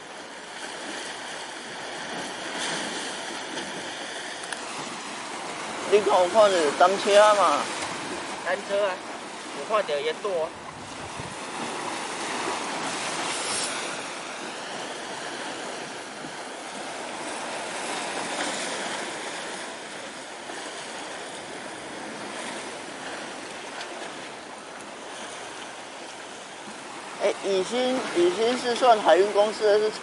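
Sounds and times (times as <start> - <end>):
sea waves washing on shore: 0.0 - 30.0.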